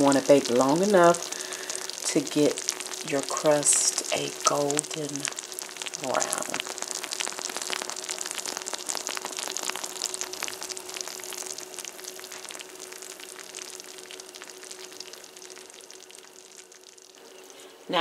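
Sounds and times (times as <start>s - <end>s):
faint steady hum: 0.0s - 18.0s
pie filling sizzling and popping: 0.0s - 18.0s.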